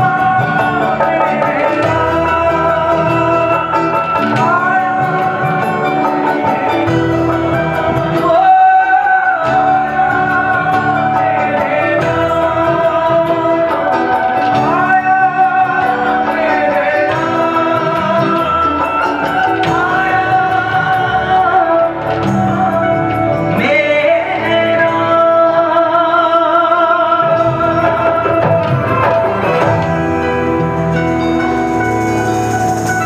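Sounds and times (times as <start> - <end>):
man singing devotional song: 0.0 - 30.8
harmonium and keyboard: 0.0 - 33.0.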